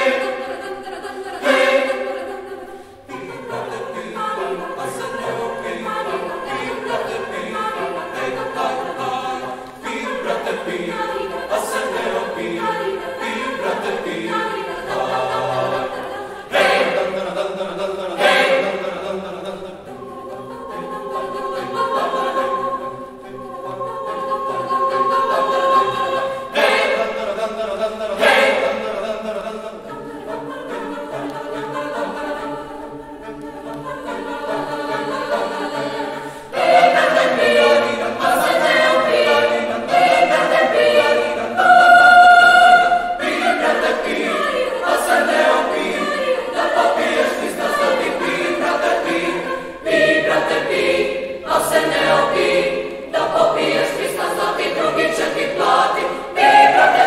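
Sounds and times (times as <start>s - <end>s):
youth choir singing a cappella: 0.0s - 57.0s.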